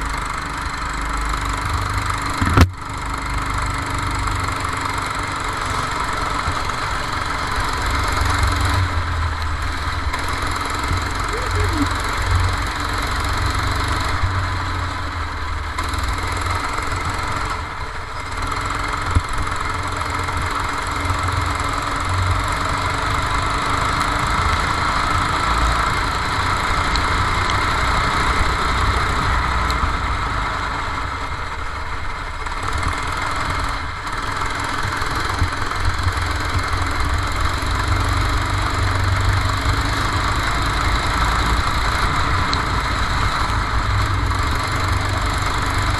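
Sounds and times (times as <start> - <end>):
go-kart engine running: 0.0 - 45.9.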